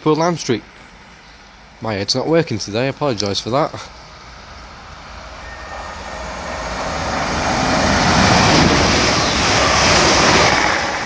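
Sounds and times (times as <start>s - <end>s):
train passing: 0.6s - 11.0s.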